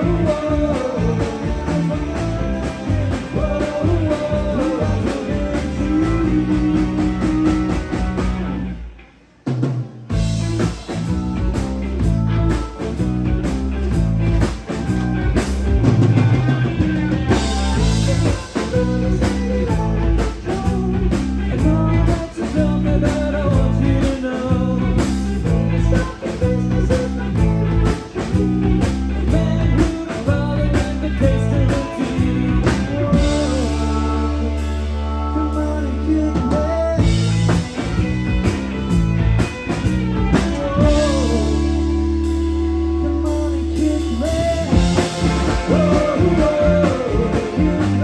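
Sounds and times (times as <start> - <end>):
drum kit beat: 0.0 - 34.9, 36.4 - 48.0
rock band playing: 0.0 - 48.0.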